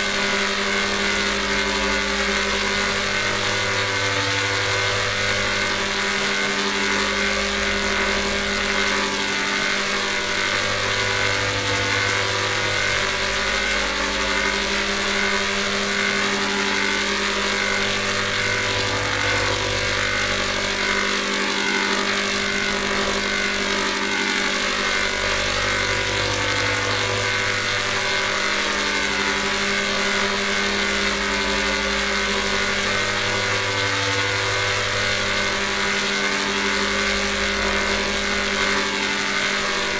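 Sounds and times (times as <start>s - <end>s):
distorted electronic drone: 0.0s - 39.9s.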